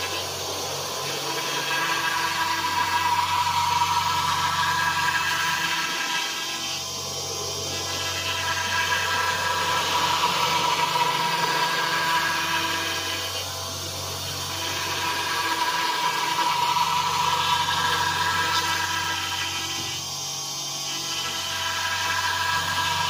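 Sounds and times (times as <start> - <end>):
bit cutting foam: 0.0 - 23.0
router spindle whining: 0.0 - 23.0.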